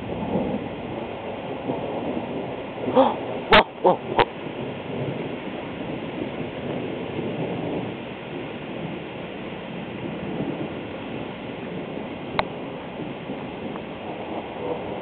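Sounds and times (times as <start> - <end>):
thunderstorm rushing noise: 0.0 - 15.0.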